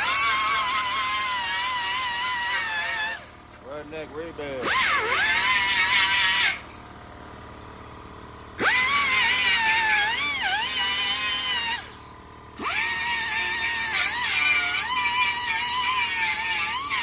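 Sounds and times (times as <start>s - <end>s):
wire wheel grinder whining on metal: 0.0s - 17.0s.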